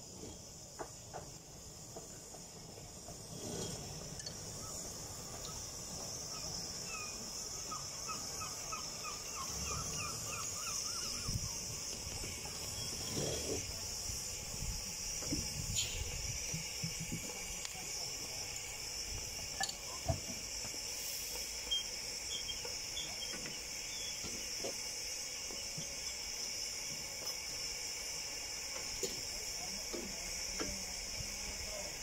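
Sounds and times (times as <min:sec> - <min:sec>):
high-pitched steam hiss: 0:00.0 - 0:32.0.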